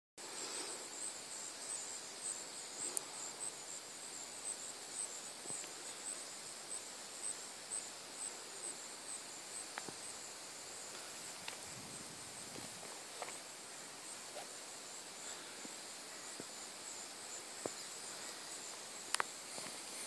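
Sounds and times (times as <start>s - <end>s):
crickets chirping: 0.2s - 20.0s.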